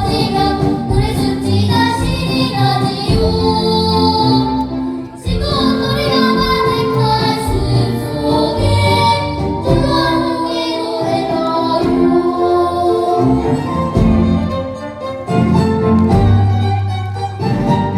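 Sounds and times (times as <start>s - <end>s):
chorus singing children's song: 0.0s - 17.9s.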